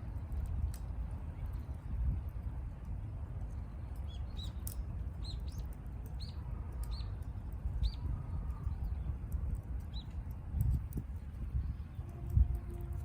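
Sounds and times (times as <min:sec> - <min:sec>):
wood stove fire rumbling and crackling: 0:00.0 - 0:13.0.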